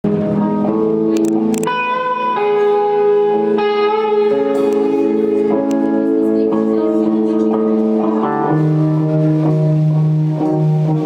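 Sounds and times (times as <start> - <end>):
electric guitar picking slow notes: 0.0 - 11.0.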